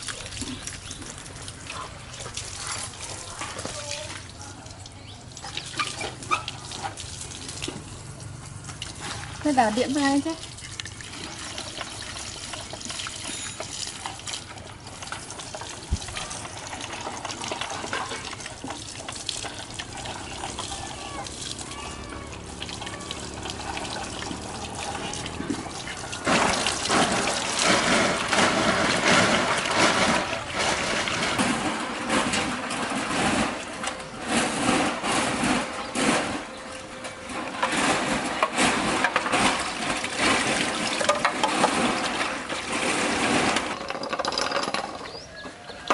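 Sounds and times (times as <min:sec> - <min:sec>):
running water: 0:00.0 - 0:45.9.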